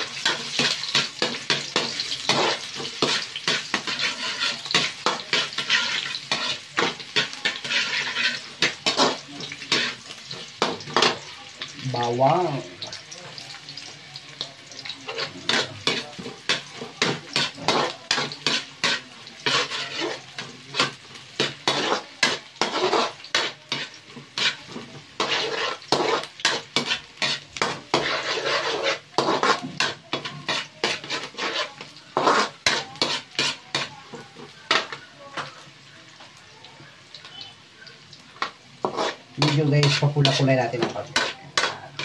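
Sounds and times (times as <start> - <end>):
metal spatula scraping a wok: 0.0 - 11.3, 14.9 - 35.7, 38.4 - 42.0
food sizzling in oil: 0.0 - 42.0.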